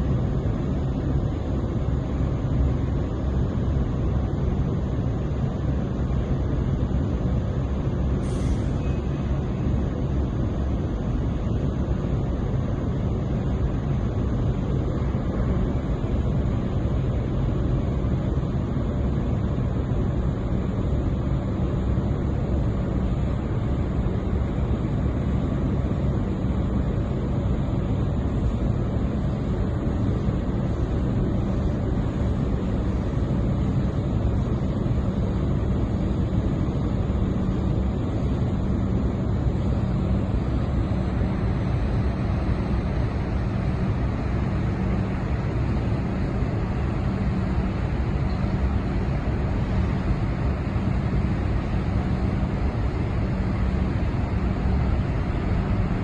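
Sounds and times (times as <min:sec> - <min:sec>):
ship engines droning: 0:00.0 - 0:56.0.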